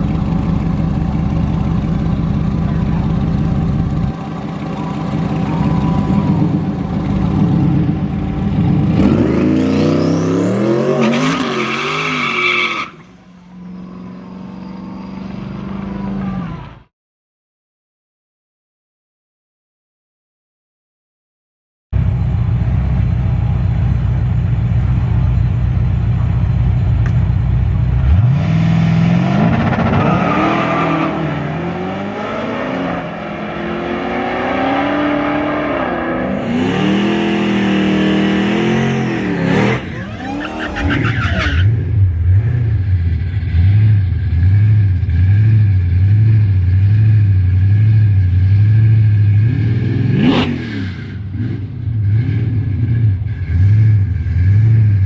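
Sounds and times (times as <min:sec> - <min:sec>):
car engine revving and idling: 0:00.0 - 0:12.2, 0:22.0 - 0:55.0.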